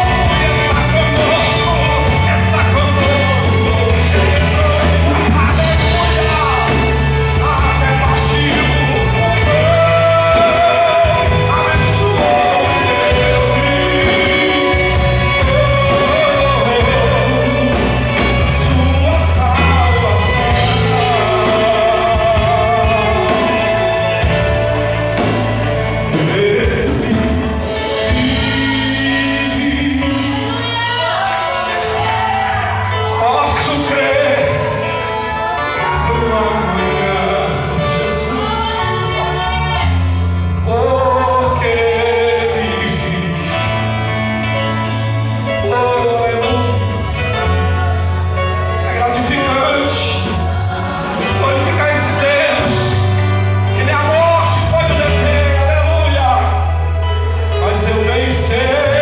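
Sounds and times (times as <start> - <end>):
live worship band playing: 0.0 - 59.0
person singing: 0.0 - 59.0.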